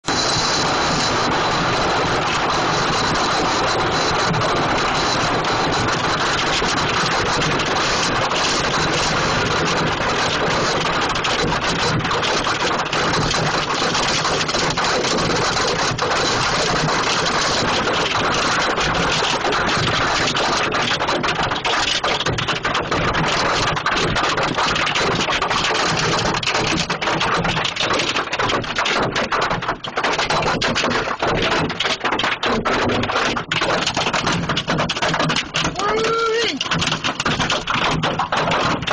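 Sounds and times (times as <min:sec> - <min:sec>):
hail pelting down: 0:00.1 - 0:38.9.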